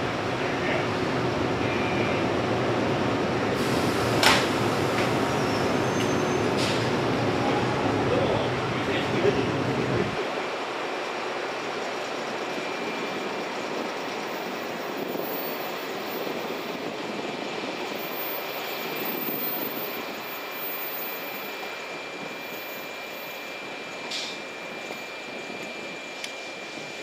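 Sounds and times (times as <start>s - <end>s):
electric train running noise: 2.6s - 27.0s.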